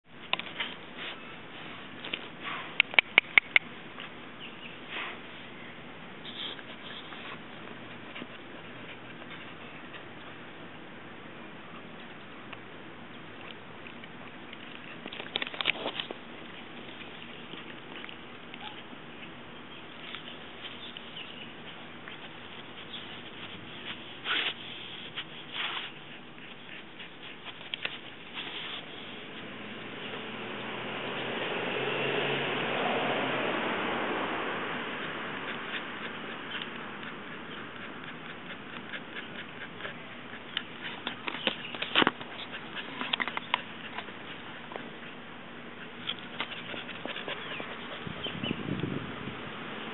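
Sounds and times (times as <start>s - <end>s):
puppy chewing grass: 0.0s - 31.8s, 33.2s - 49.6s.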